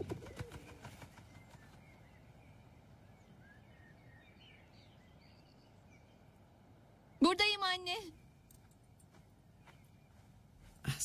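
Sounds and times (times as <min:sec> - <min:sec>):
soft bird chirps: 0:00.0 - 0:10.9.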